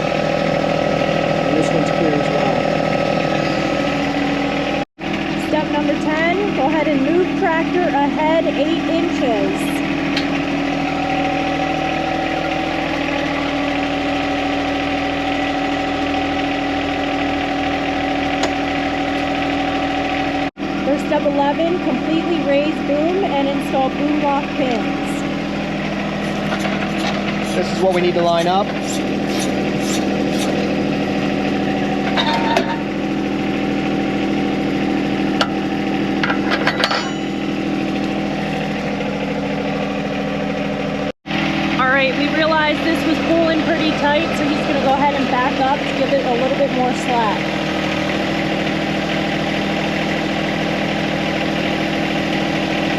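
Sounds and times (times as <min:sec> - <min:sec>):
steady whine: 0:00.0 - 0:52.9
tractor diesel engine running: 0:00.0 - 0:52.9.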